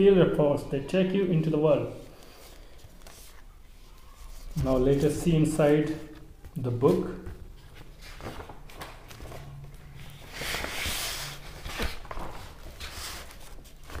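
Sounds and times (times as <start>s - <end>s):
book pages turning: 2.1s - 14.0s.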